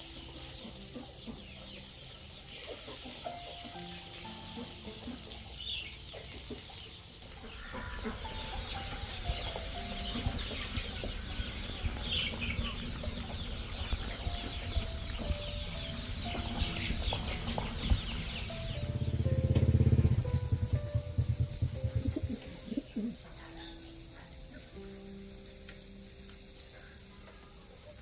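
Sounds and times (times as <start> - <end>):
chickens clucking: 0.0 - 25.8
soft background music: 0.0 - 28.0.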